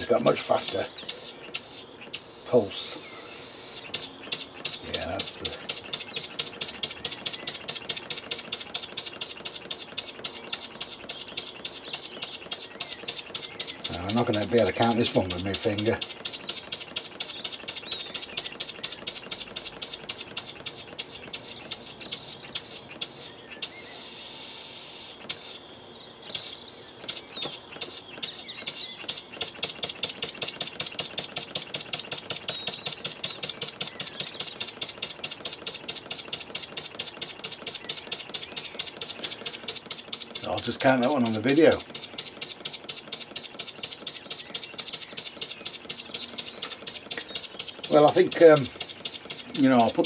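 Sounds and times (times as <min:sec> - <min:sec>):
model engine exhaust puffs: 0:00.0 - 0:23.8, 0:26.2 - 0:50.0.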